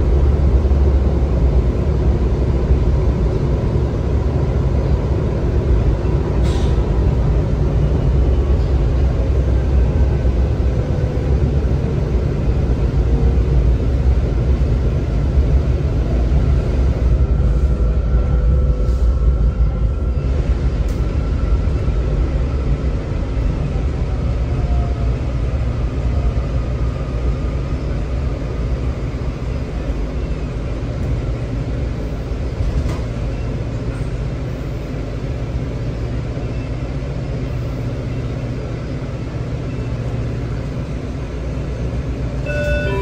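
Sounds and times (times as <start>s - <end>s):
low rumble of train equipment: 0.0s - 43.0s.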